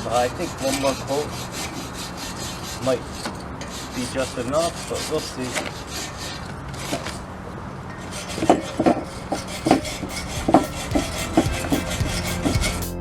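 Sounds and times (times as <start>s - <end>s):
scrubber rasping on metal: 0.0s - 13.0s.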